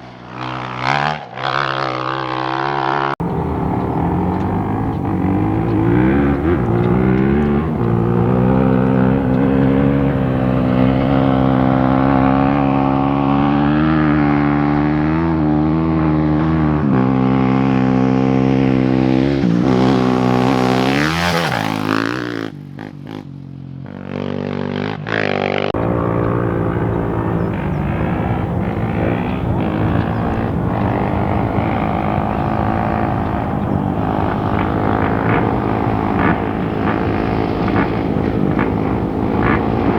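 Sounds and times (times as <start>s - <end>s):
engine running and revving: 0.0s - 23.3s, 23.9s - 39.9s.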